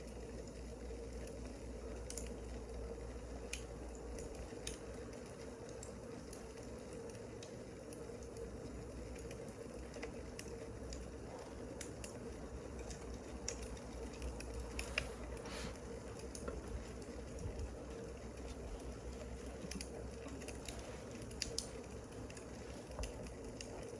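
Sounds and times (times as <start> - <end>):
low steady hum: 0.0 - 23.9
wood fire crackling: 0.0 - 23.9.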